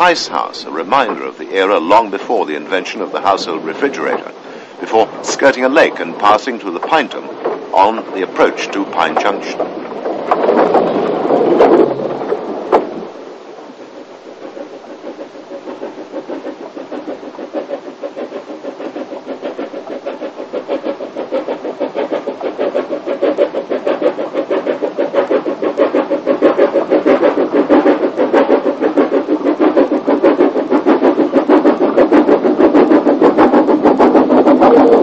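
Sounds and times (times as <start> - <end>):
steam locomotive chuffing: 0.0 - 9.7, 14.3 - 35.0.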